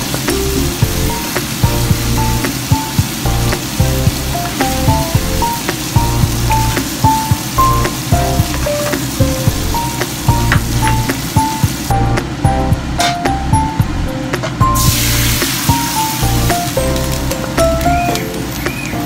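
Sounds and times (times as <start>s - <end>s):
food sizzling in a frying pan: 0.0s - 12.4s, 14.7s - 18.9s
background music with bass line: 0.0s - 19.0s.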